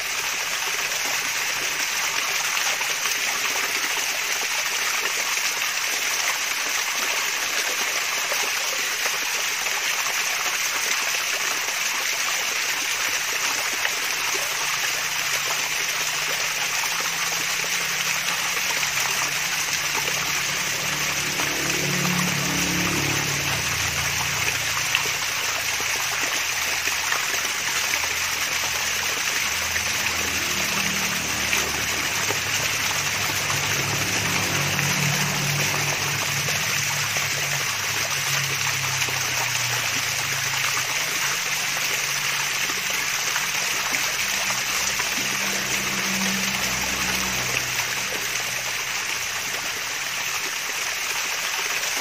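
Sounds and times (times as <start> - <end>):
small waterfall splashing: 0.0 - 52.0.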